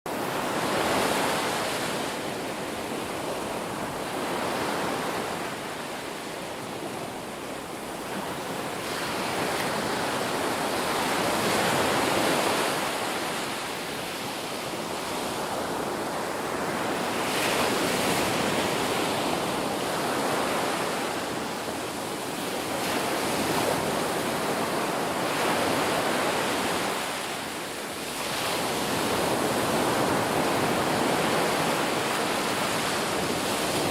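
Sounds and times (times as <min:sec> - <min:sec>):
ocean waves breaking on beach: 0:00.1 - 0:33.9.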